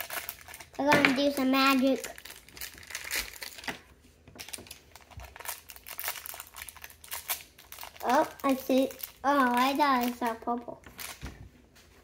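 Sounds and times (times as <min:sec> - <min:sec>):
wrapper crinkling: 0:00.0 - 0:11.3.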